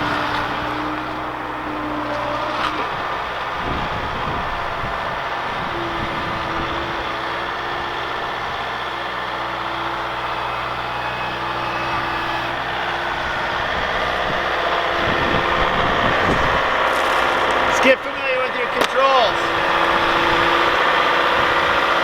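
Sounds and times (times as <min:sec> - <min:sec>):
loader engine running: 0:00.0 - 0:22.0.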